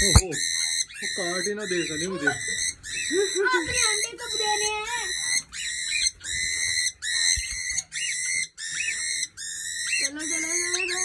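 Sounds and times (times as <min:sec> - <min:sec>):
parrot screeching: 0:00.0 - 0:11.0.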